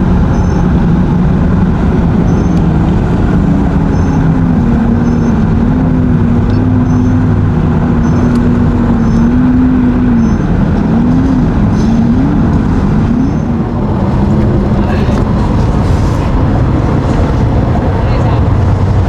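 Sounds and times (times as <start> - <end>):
engine running loudly: 0.0 - 19.0.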